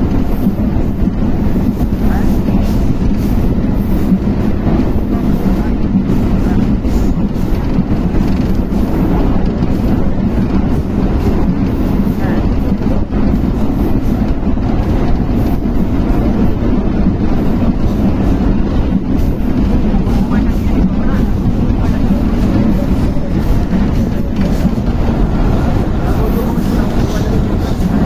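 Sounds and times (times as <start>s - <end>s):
vehicle rumble: 0.0s - 28.0s
voices: 0.0s - 28.0s.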